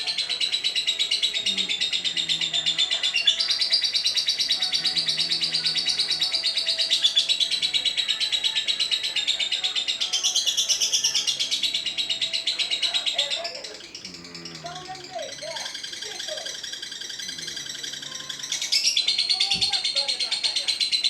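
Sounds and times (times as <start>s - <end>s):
lovebird chattering song: 0.0s - 21.0s.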